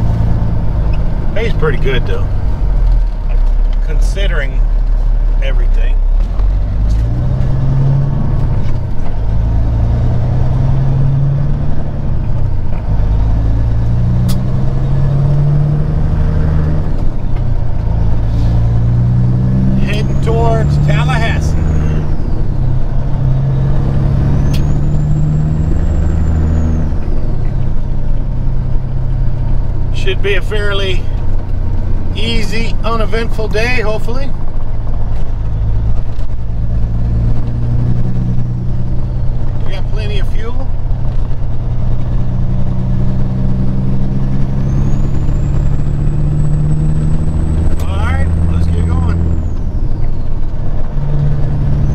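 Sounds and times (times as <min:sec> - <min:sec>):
truck diesel engine drone: 0:00.0 - 0:51.9.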